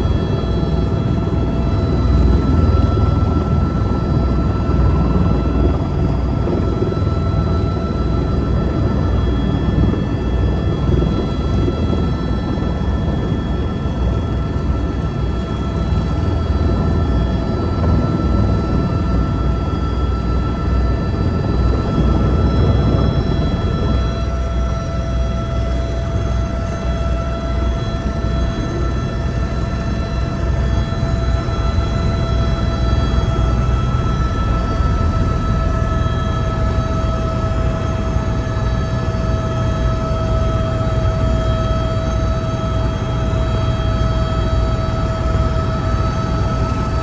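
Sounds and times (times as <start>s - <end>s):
helicopter rotor and turbine: 0.0s - 47.0s.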